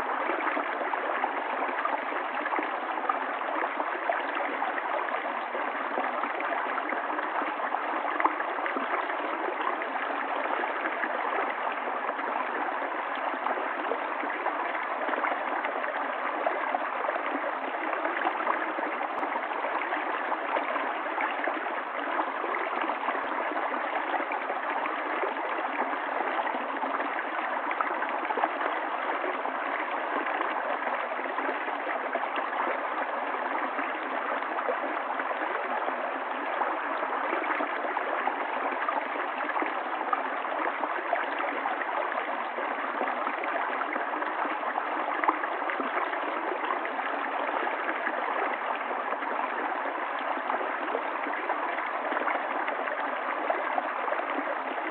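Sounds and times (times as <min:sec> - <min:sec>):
stream water running: 0:00.0 - 0:54.9.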